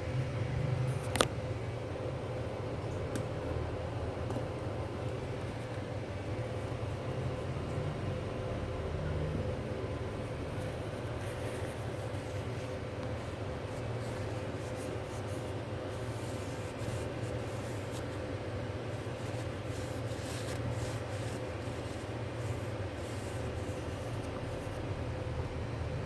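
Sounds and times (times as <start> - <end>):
faint constant whine: 0.0 - 26.0
low mechanical hum: 0.0 - 26.0.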